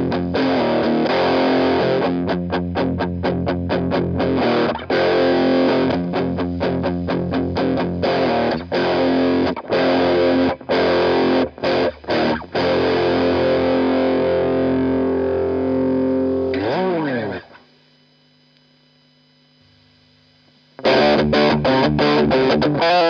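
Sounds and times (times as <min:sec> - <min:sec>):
distorted guitar chord ringing: 0:00.0 - 0:18.0, 0:20.8 - 0:23.0
distorted electric guitar riff: 0:00.0 - 0:18.1, 0:19.0 - 0:23.0.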